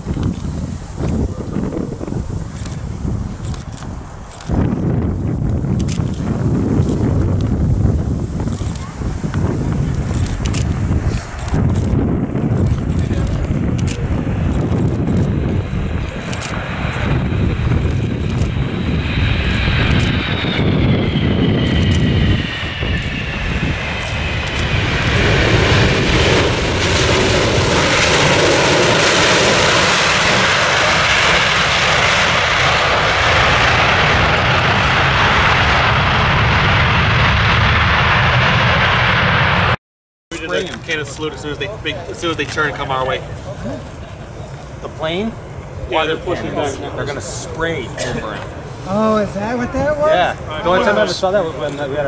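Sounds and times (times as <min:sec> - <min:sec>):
jet engine rushing noise: 0:00.0 - 0:52.0
jet engines whining: 0:00.0 - 0:52.0.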